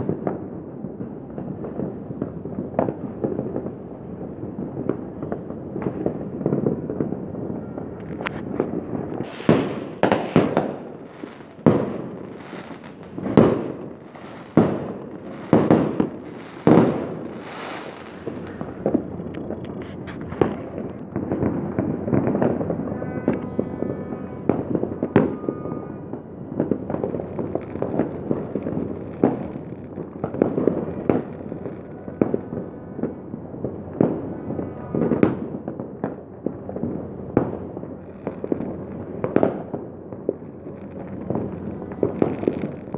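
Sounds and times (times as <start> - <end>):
fireworks bangs: 0.0 - 42.9
fireworks pops and crackles: 0.0 - 42.9.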